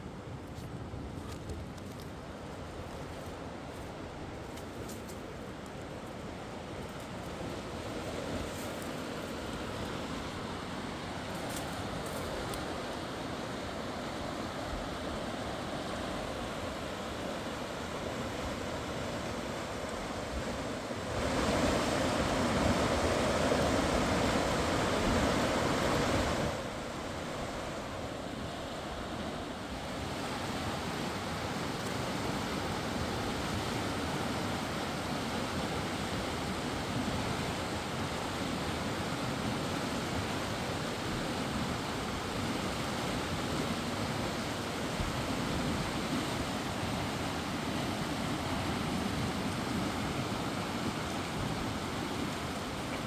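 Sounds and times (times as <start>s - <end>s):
rushing river water: 1.8s - 53.0s.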